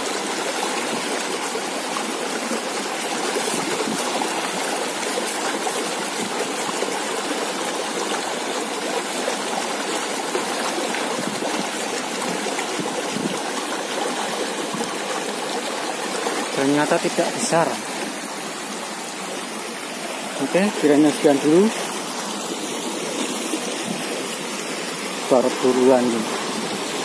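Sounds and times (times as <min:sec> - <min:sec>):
stream flowing: 0:00.0 - 0:27.0.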